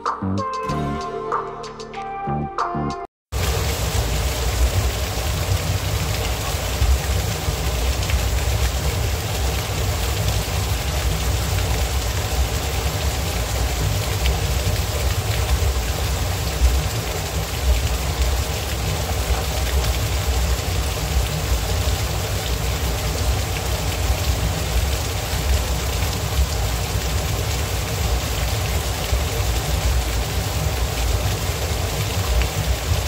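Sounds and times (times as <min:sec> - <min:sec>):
waterfall splashing onto rocks: 0:03.3 - 0:33.0.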